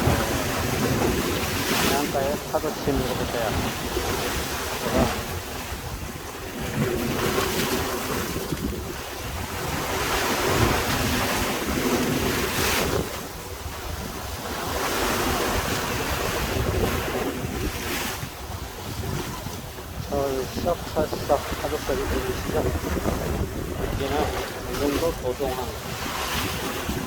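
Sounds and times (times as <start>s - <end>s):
sea waves breaking on shore: 0.0s - 27.0s
wind buffeting microphone: 0.0s - 27.0s.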